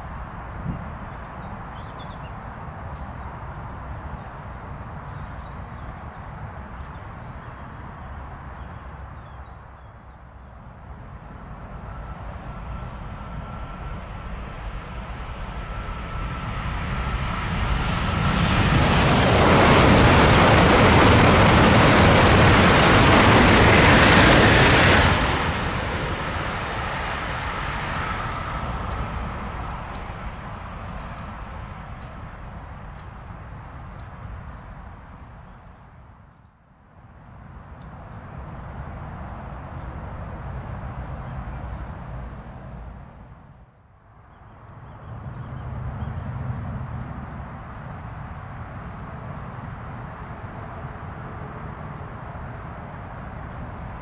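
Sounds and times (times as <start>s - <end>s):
electric train passing at speed: 0.0s - 36.1s, 36.8s - 54.0s.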